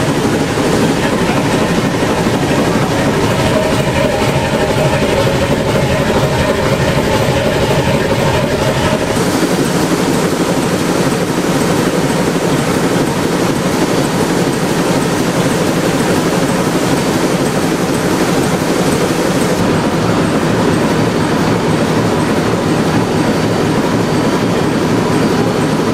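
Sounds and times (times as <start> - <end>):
large engine running loudly: 0.0 - 25.9
steady hum: 0.0 - 25.9.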